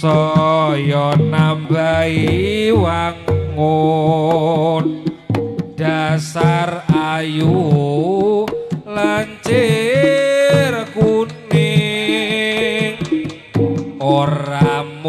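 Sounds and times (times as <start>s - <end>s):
hand drum strokes: 0.0s - 15.0s.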